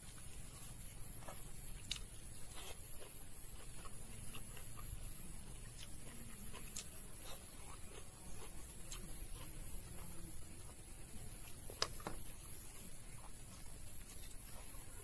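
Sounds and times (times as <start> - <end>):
chewing and lip smacks: 0.0 - 15.0
fingers mixing rice on a plate: 0.0 - 15.0.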